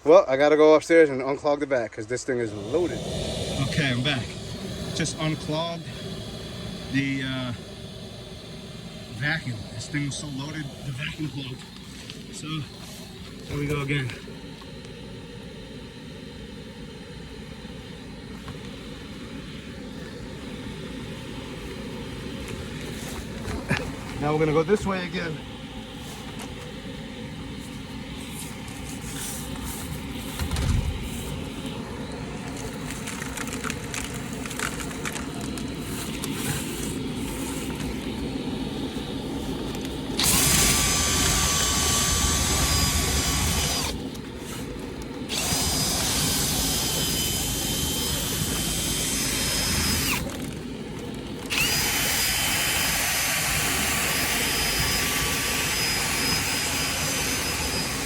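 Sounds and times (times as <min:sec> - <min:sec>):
vacuum running: 0:02.2 - 0:58.0
drill high whine: 0:02.4 - 0:50.6, 0:51.4 - 0:58.0.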